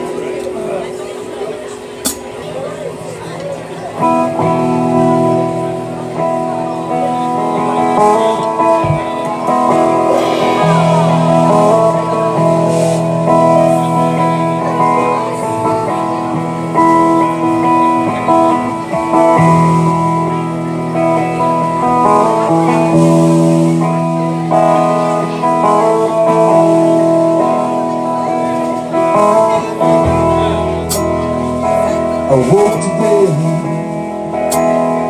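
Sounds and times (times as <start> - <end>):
live band with guitars: 0.0 - 35.0.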